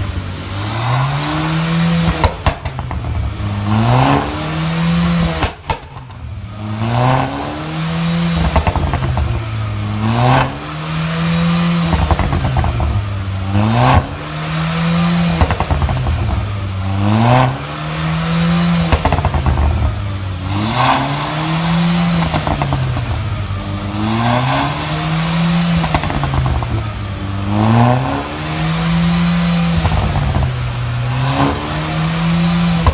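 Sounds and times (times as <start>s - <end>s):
exhaust pops crackling: 0.0s - 7.2s, 8.2s - 10.7s, 11.7s - 14.3s, 15.0s - 32.9s
car engine revving: 0.0s - 32.9s.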